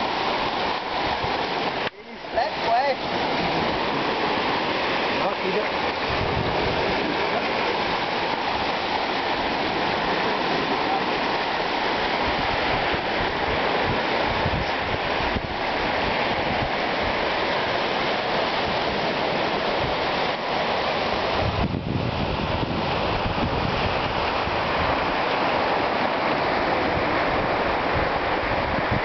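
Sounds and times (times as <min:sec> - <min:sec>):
sea water rushing over rocks: 0:00.0 - 0:29.0.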